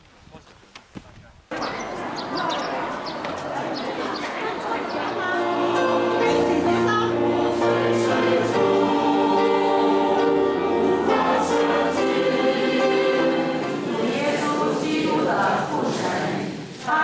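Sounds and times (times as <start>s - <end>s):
choir singing a hymn: 1.6s - 17.0s.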